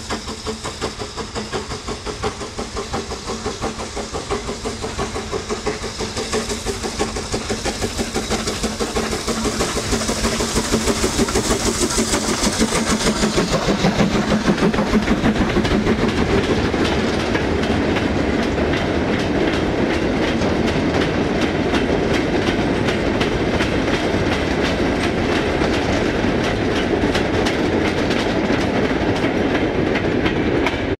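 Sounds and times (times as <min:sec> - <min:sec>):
steam locomotive exhaust beating: 0:00.0 - 0:31.0.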